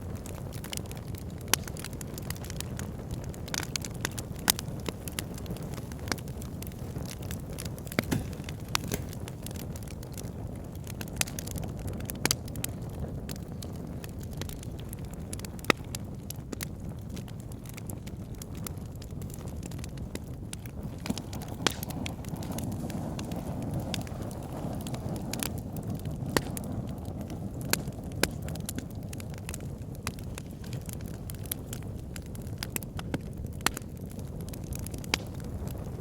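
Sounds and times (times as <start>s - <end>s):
logs crackling and popping: 0.0s - 36.0s
low rumble of flames: 0.0s - 36.0s.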